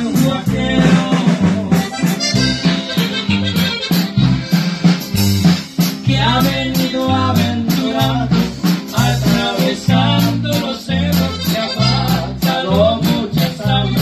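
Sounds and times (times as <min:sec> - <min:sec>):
men singing: 0:00.0 - 0:03.2, 0:05.9 - 0:14.0
accordion: 0:00.0 - 0:14.0
acoustic guitar: 0:00.0 - 0:14.0
electric bass: 0:00.0 - 0:14.0.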